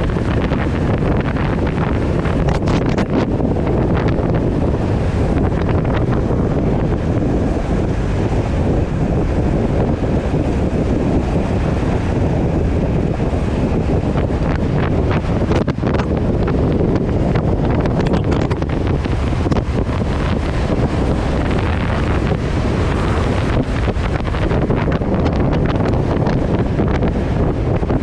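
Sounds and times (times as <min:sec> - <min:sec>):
steady low rumble: 0:00.0 - 0:28.0
wind rushing over microphone: 0:00.0 - 0:28.0.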